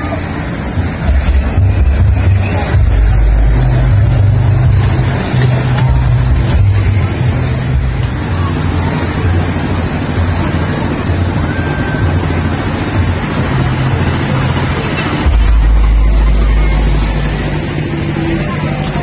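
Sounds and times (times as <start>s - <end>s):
fairground hum and noise: 0.0s - 19.0s.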